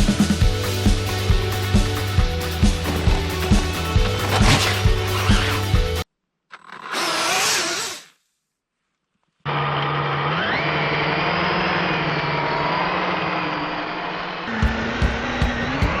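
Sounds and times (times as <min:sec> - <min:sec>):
electric motor whining: 0:01.4 - 0:08.1, 0:09.5 - 0:16.0.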